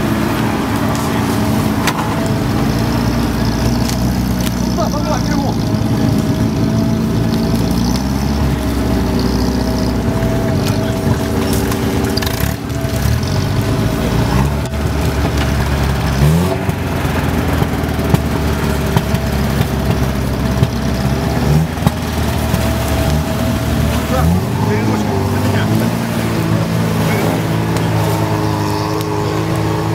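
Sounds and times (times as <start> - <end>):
off-road engines running: 0.0 - 29.9.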